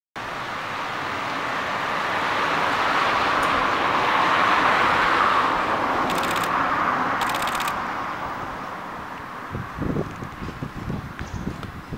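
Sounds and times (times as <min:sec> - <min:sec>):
vehicle passing: 0:00.3 - 0:10.6.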